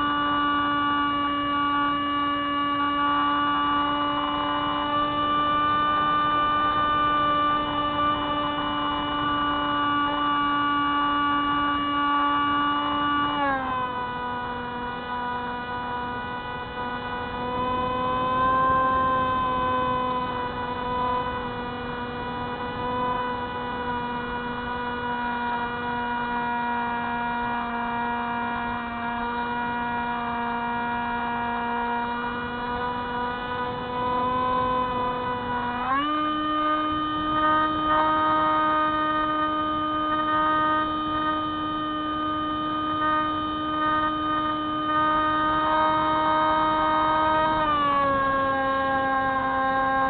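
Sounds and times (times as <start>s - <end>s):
model plane propeller droning: 0.0s - 50.0s.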